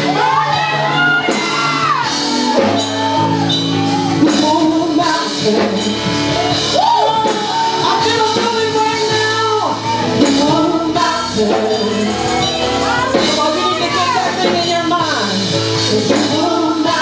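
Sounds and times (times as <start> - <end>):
instrumental backing: 0.0 - 17.0.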